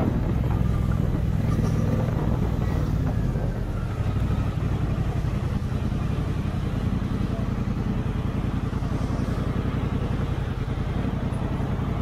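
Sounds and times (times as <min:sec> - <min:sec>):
motorcycle engine cruising: 0:00.0 - 0:12.0
road and wind noise: 0:00.0 - 0:12.0.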